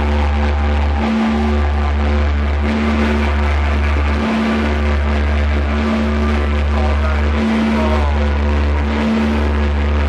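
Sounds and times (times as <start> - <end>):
droning psychedelic rock: 0.0 - 10.0.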